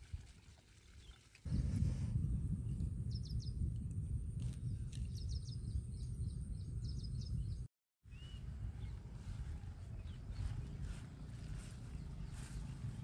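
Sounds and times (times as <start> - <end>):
wind buffeting microphone: 1.5 - 13.0.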